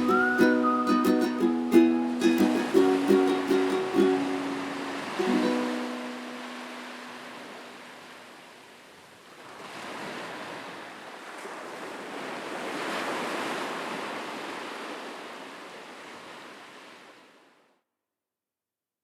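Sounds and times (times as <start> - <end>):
ocean waves washing in: 0.0 - 17.7.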